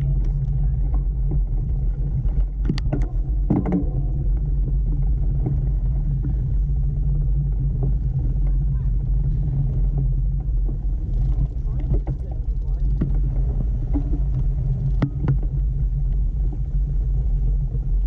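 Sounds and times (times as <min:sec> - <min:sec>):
bike rattling over bumps: 0:00.0 - 0:18.0
tyres rolling on dirt: 0:00.0 - 0:18.0
wind rumble: 0:00.0 - 0:18.0.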